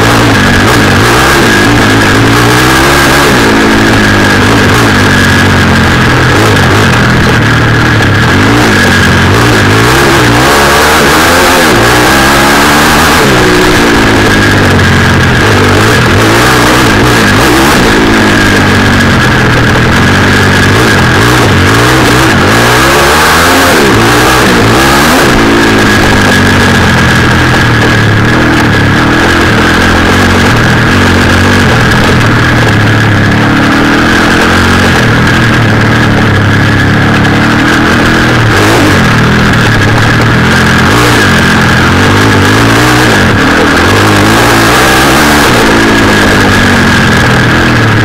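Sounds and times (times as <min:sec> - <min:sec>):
high-pitched whine: 0:00.0 - 0:48.0
motorcycle engine revving: 0:00.0 - 0:48.0
wind noise: 0:00.0 - 0:48.0.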